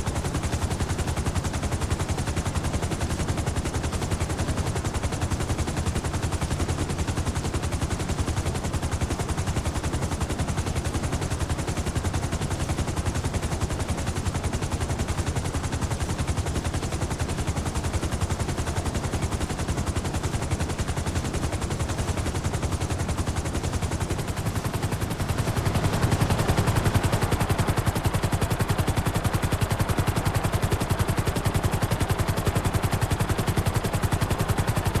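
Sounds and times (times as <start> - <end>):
helicopter rotor blades chopping: 0.0 - 35.0.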